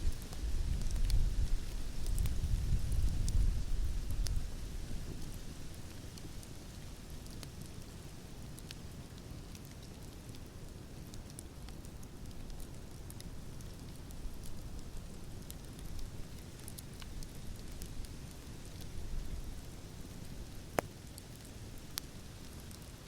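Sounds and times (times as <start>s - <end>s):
fire crackling and popping: 0.0s - 23.0s
low rumble and hiss of fire: 0.0s - 23.0s.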